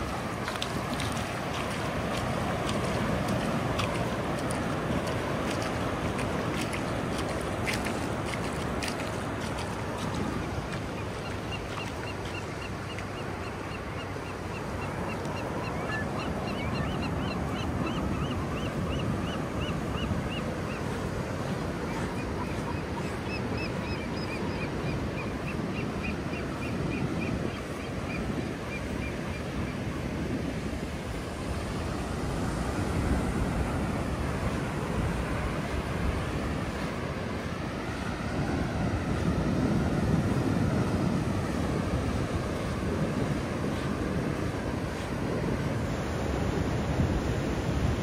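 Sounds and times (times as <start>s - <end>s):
ocean surf on beach: 0.0s - 48.0s.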